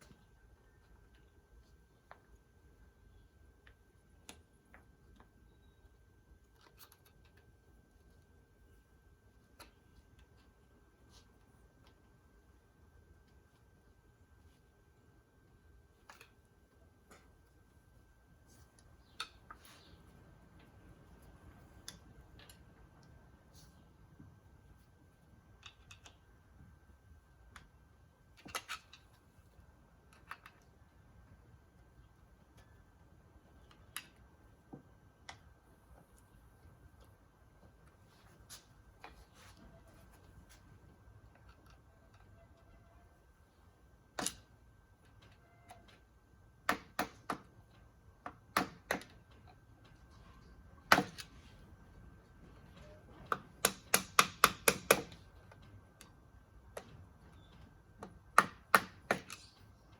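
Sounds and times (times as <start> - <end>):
low room noise: 0.0 - 59.9.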